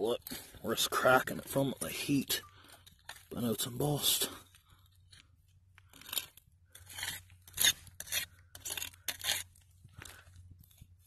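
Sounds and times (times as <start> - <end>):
soil scraping around bottle: 0.0 - 11.0.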